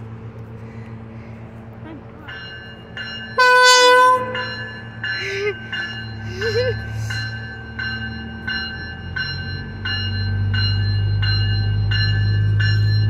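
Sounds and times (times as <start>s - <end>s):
train diesel engines rumbling: 0.0s - 13.0s
bell ringing: 2.3s - 13.0s.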